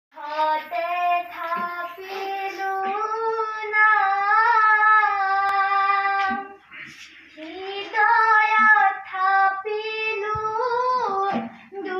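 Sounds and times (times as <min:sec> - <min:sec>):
children singing unaccompanied: 0:00.2 - 0:11.9.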